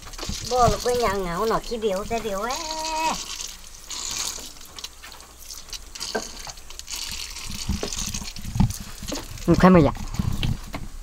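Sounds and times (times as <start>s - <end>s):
hose water splashing: 0.0s - 10.7s.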